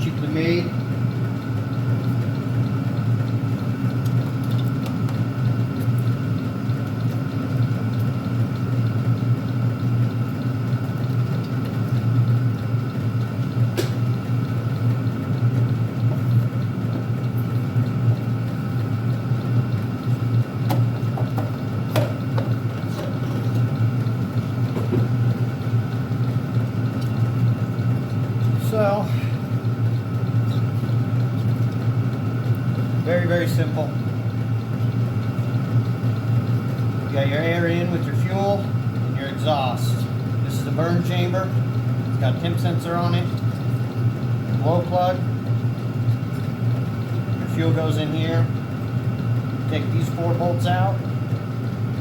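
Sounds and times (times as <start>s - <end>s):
air heater blower hum: 0.0s - 52.0s.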